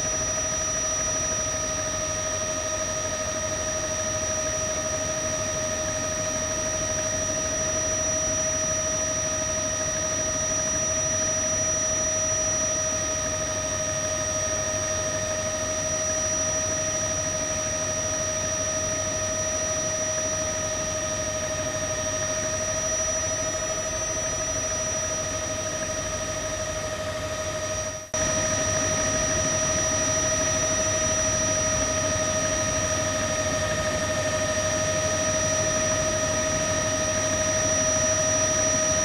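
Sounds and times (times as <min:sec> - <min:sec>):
machine whine over hiss: 0:00.0 - 0:39.0.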